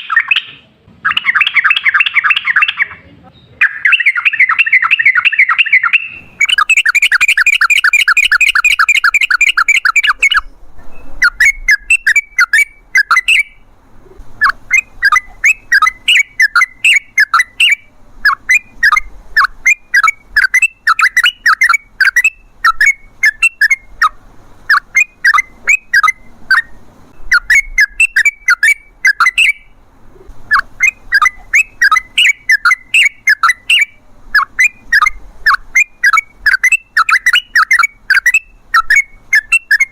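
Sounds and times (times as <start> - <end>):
bird singing trills and chatter: 0.0 - 39.9.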